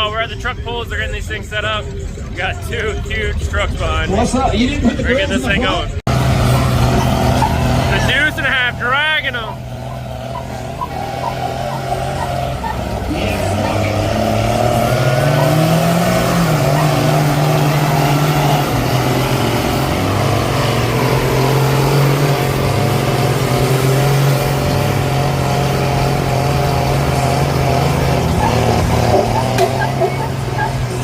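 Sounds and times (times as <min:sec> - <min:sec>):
truck engine running hard: 0:00.0 - 0:31.0.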